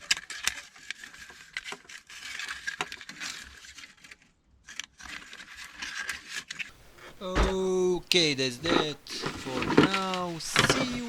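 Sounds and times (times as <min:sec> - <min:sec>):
plastic parts clicking and scraping: 0:00.0 - 0:11.0.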